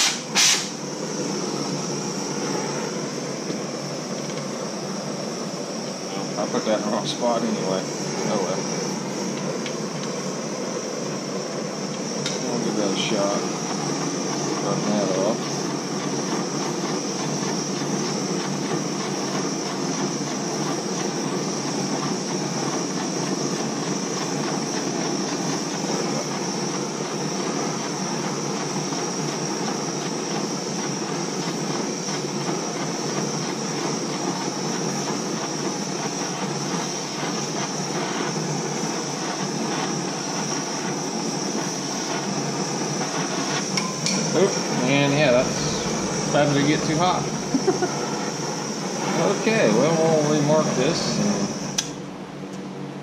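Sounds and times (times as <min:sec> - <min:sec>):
gas torch flame hissing: 0:00.0 - 0:53.0.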